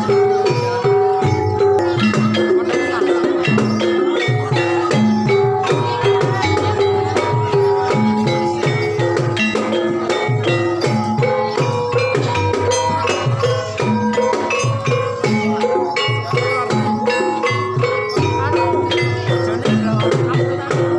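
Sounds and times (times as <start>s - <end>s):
drum and percussion strokes: 0.0s - 20.9s
gamelan keyed instruments: 0.0s - 20.9s.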